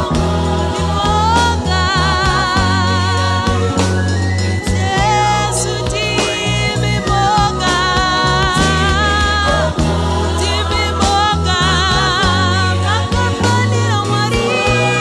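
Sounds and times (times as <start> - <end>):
band with deep bass and beat: 0.0 - 15.0
gospel choir singing in harmony: 0.0 - 15.0.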